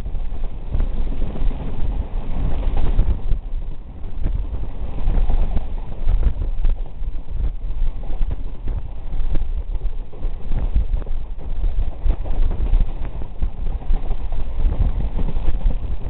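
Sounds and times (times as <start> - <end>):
train rumbling: 0.0 - 16.0
wheels clacking and knocking: 0.0 - 16.0.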